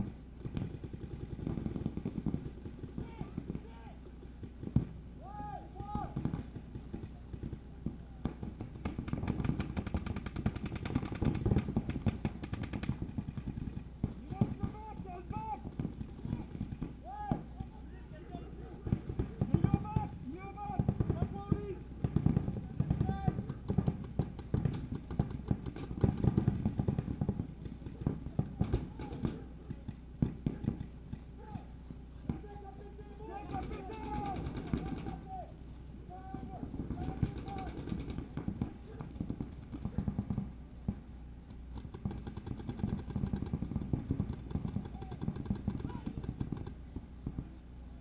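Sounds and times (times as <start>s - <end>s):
paintball markers firing: 0.0s - 5.0s, 5.8s - 17.7s, 18.8s - 35.5s, 36.4s - 47.6s.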